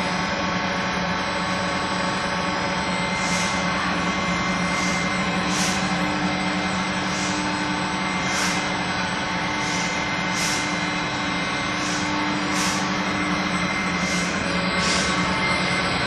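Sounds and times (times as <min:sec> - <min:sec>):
fan noise: 0:00.0 - 0:16.0
machine motor hum and whine: 0:00.0 - 0:16.0.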